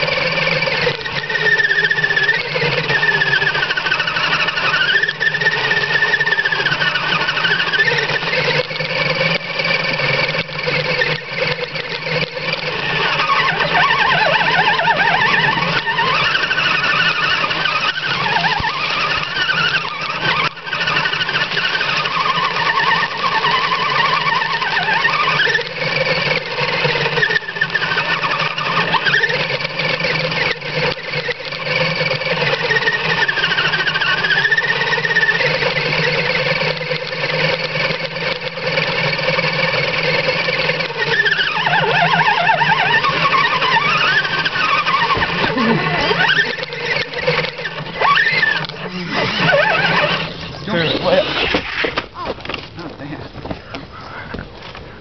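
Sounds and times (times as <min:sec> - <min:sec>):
electric motor and gears whining: 0:00.0 - 0:55.0.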